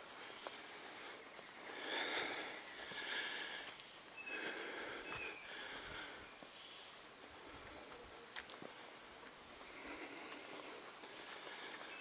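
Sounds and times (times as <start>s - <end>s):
person breathing softly: 0.0s - 12.0s.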